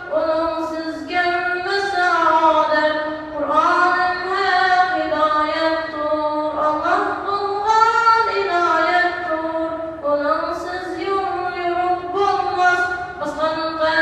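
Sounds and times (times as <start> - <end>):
child singing unaccompanied: 0.0 - 14.0.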